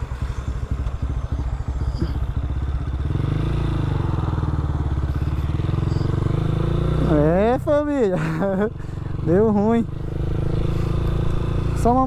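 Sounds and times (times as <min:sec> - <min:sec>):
motorcycle idling: 0:00.0 - 0:12.0.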